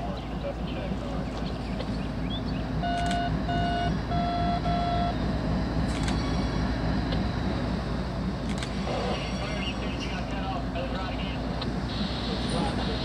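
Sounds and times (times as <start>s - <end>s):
locomotive engines rumbling: 0.0s - 13.0s.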